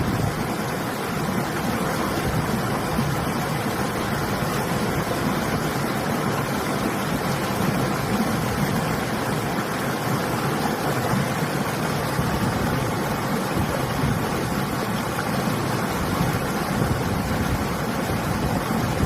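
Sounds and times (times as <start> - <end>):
flowing river water: 0.0 - 19.0
wind: 0.0 - 19.0.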